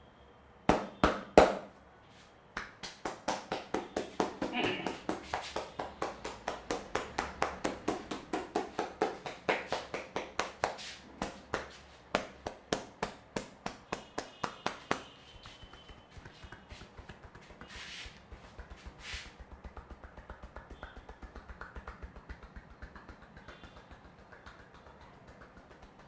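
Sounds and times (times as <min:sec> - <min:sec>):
hands tapping in percussive massage: 0:00.7 - 0:01.7, 0:02.6 - 0:26.0.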